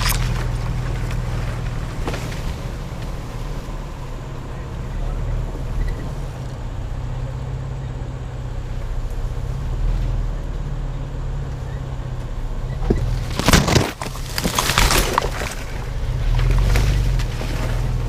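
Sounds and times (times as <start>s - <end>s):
truck engine rumble: 0.0s - 18.0s
tyre noise on trail: 0.0s - 18.0s.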